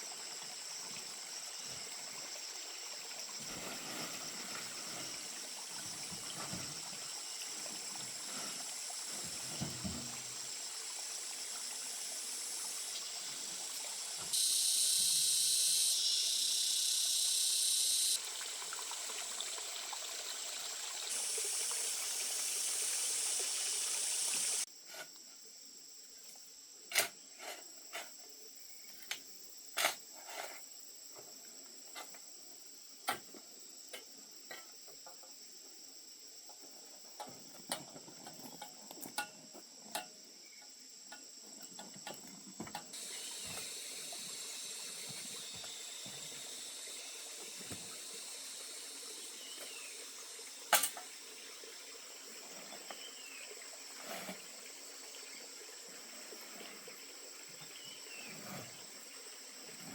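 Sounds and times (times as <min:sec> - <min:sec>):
crickets trilling: 0:00.0 - 0:59.9
running water hiss: 0:00.0 - 0:59.9.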